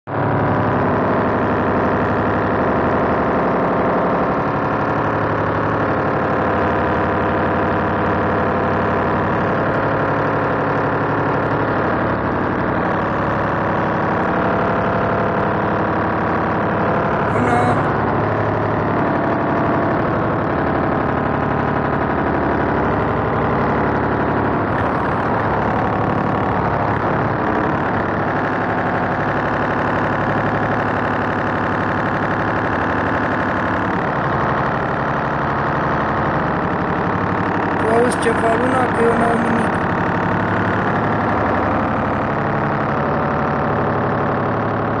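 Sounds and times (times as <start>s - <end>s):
engine idling hum: 0.0s - 45.0s.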